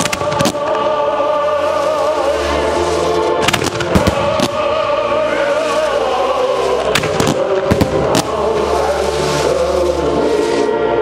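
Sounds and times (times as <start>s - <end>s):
fireworks bursting: 0.0s - 10.7s.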